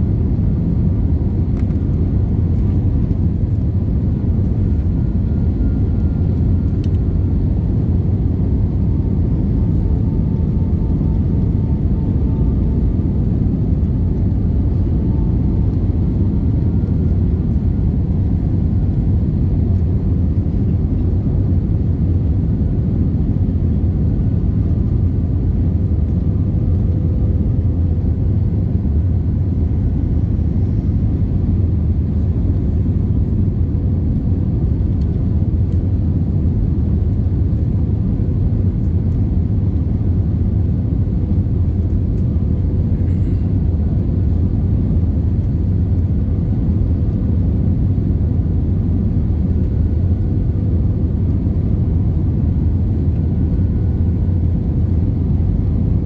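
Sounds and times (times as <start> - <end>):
aircraft cabin rumble: 0.0 - 56.0
faint steady whines: 0.0 - 56.0.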